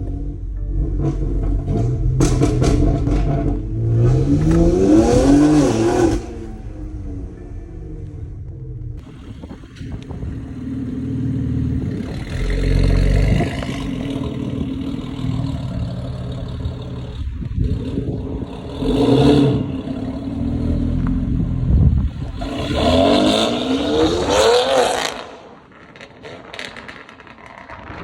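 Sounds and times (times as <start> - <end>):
car engine revving: 0.0 - 27.0
exhaust pops and crackles: 0.8 - 5.8, 8.0 - 18.8, 19.6 - 23.0, 24.2 - 28.0.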